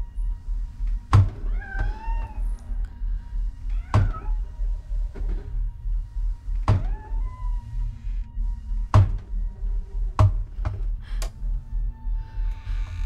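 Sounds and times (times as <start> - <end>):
low pulsing drone: 0.0 - 13.0.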